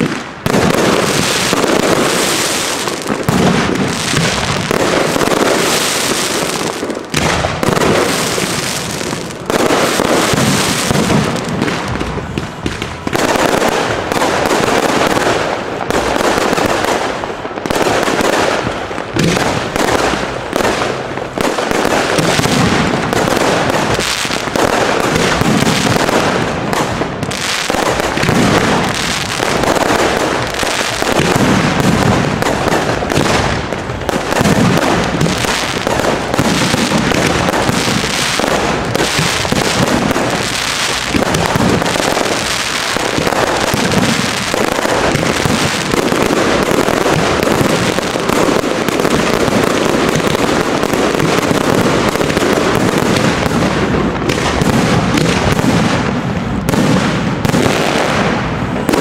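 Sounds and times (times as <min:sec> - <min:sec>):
fireworks launching and bursting: 0:00.0 - 0:59.0.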